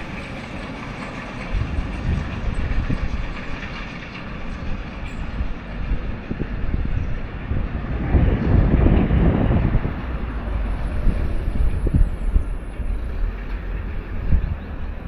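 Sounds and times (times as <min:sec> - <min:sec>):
train passing rumble: 0:00.0 - 0:15.0.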